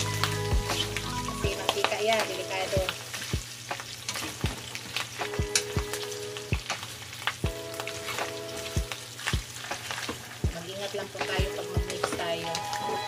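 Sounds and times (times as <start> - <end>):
meat frying in hot oil: 0.0 - 13.0.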